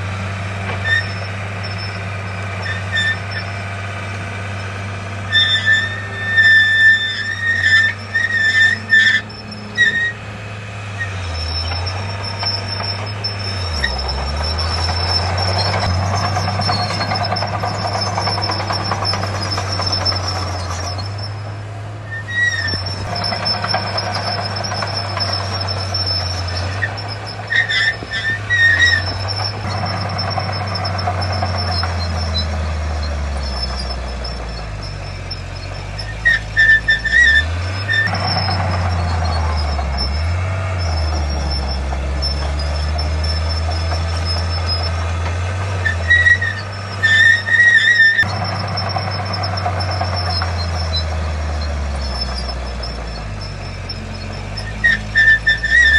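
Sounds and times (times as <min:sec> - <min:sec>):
diesel machinery running: 0:00.0 - 0:55.9
short high-pitched squeals: 0:00.8 - 0:03.6, 0:04.5 - 0:10.2, 0:11.0 - 0:55.9.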